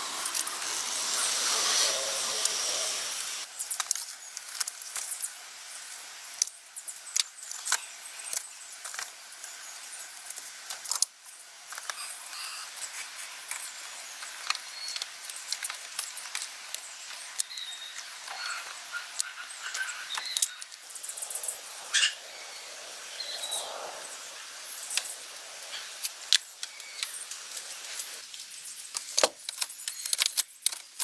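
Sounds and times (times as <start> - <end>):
hand tools and metal parts clinking: 0.0 - 5.4, 6.3 - 21.1, 24.8 - 31.0
steady hiss: 0.0 - 29.9.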